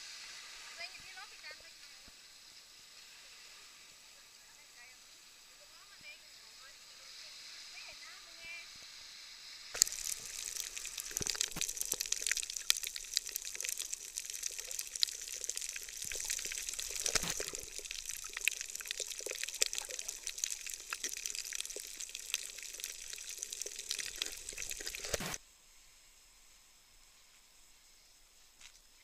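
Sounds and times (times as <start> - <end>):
underwater crackle and hiss: 0.0 - 29.0.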